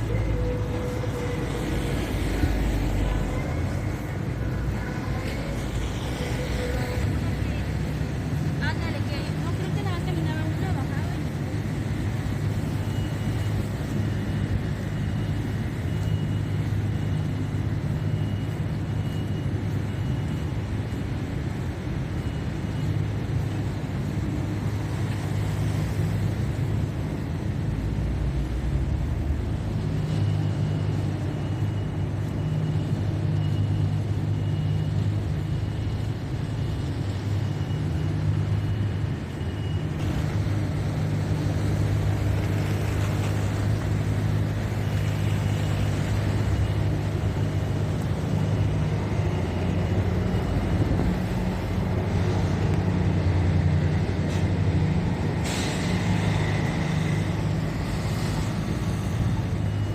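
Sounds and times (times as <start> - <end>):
vehicle engines humming: 0.0 - 59.9.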